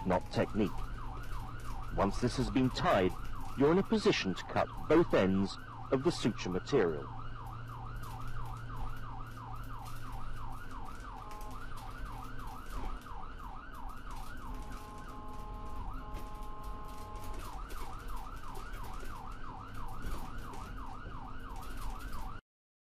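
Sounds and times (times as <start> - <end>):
light crackle: 0.0 - 22.4
siren yelping: 0.0 - 22.4.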